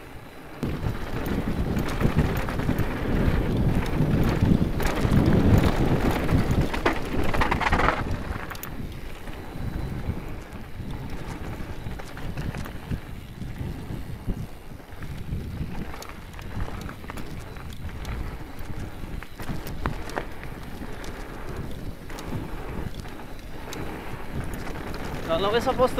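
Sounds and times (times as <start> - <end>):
bike rattling: 0.0 - 25.9
wind buffeting microphone: 0.0 - 25.9.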